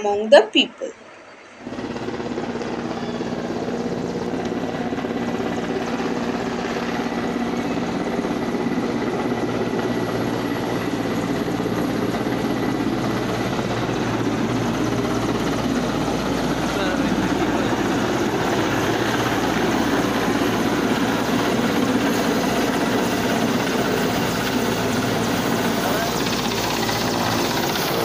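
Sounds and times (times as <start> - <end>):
helicopter rotor beating: 0.0 - 28.0.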